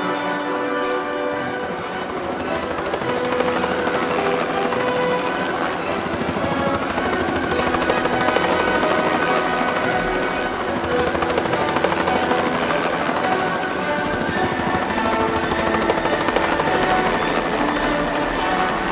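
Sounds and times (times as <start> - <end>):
helicopter engine running: 0.0 - 18.9
helicopter rotor chop: 1.2 - 18.9.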